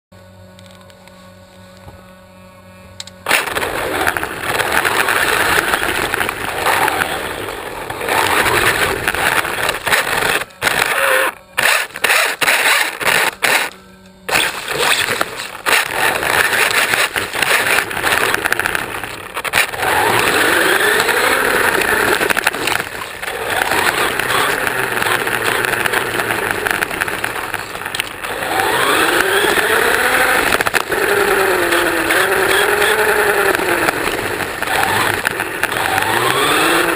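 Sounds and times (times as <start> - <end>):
toy car motor whine: 0.5 - 36.9
tyres and chassis rattling: 3.2 - 13.7, 14.3 - 36.9.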